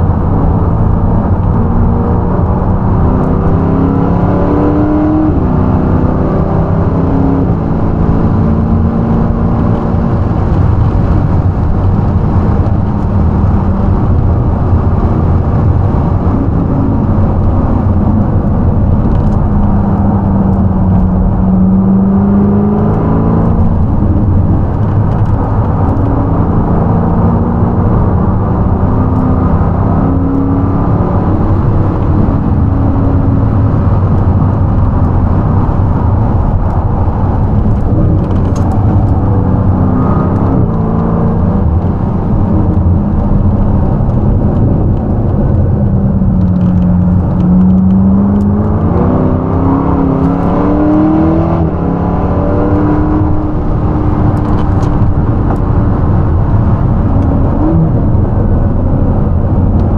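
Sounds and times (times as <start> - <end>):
race car engine running hard: 0.0 - 59.9
road and wind noise: 0.0 - 59.9.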